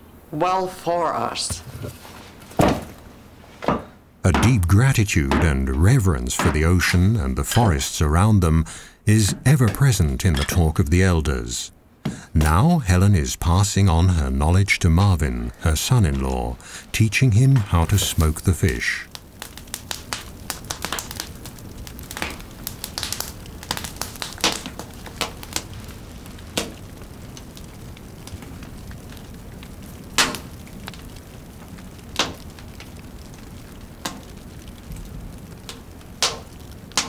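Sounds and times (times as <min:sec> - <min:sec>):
low steady hiss of fire: 0:00.0 - 0:37.0
wood fire crackling and popping: 0:00.9 - 0:37.0.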